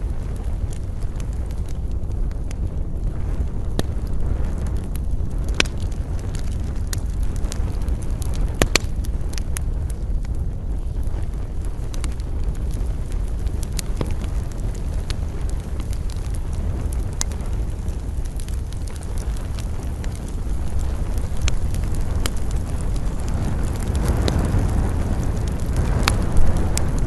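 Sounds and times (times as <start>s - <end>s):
campfire low rush: 0.0s - 27.0s
wood crackling and popping: 0.0s - 27.0s.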